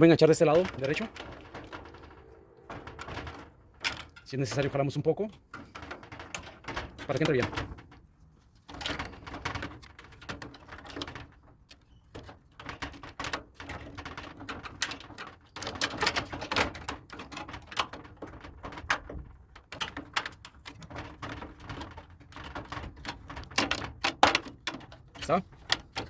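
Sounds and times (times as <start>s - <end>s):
plastic and sheet metal clicks and rattles: 0.0s - 26.0s.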